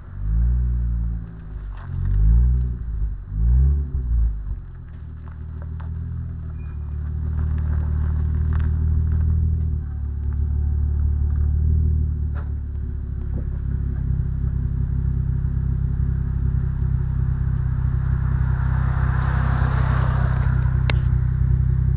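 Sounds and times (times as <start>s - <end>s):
car engine and exhaust running: 0.0s - 21.9s.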